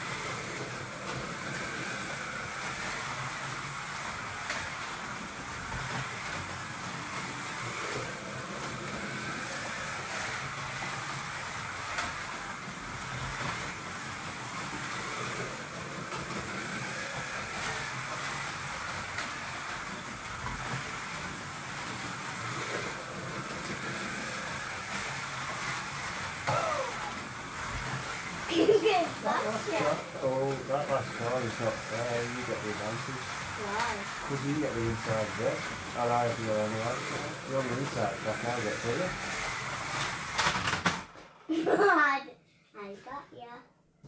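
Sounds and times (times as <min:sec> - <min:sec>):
slot car motors whining: 0:00.0 - 0:41.0.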